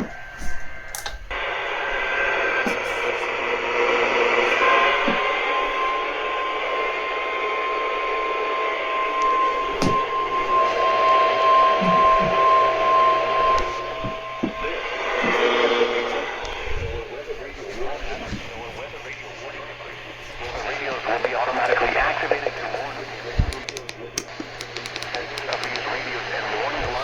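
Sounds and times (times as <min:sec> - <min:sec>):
radio static hiss: 0:00.0 - 0:27.0
steady warning alarm tone: 0:00.0 - 0:27.0.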